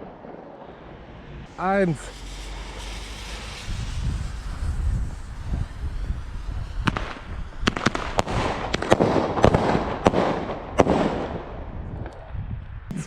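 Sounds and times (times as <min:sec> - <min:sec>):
fireworks banging: 0:00.0 - 0:12.1
fireworks crackling: 0:00.0 - 0:12.3.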